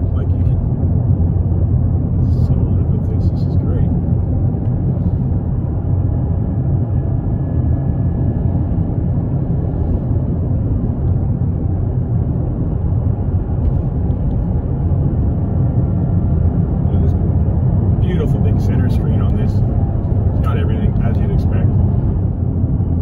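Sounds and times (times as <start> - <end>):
car engine rumble in cabin: 0.0 - 23.0.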